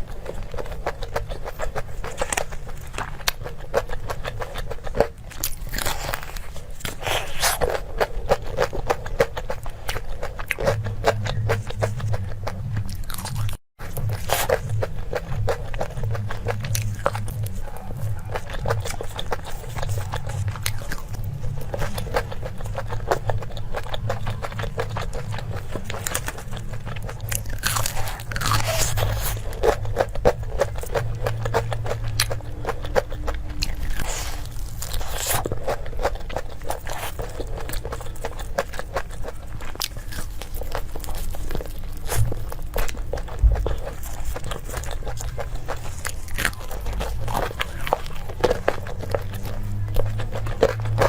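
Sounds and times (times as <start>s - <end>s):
person crunching and chewing food: 0.0s - 51.0s.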